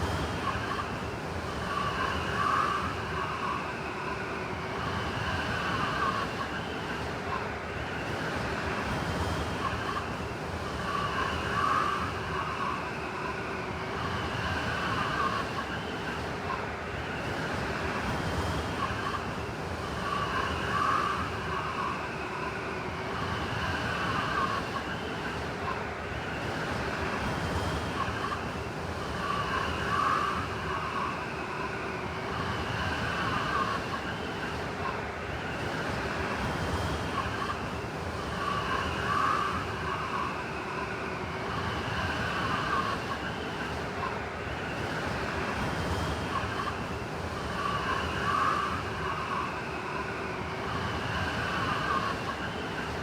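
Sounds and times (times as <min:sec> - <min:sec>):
howling blizzard wind: 0:00.0 - 0:53.0.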